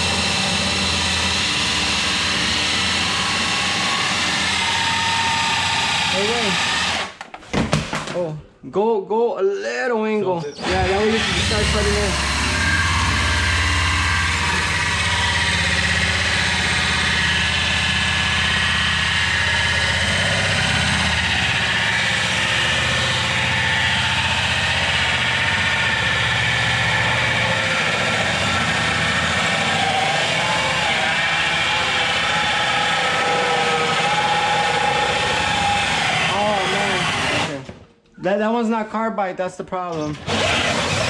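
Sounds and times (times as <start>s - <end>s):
cordless drill running: 0.0s - 7.2s, 10.6s - 37.6s, 40.1s - 41.0s
hole saw grinding into drywall: 0.0s - 8.2s, 10.5s - 37.7s, 40.0s - 41.0s.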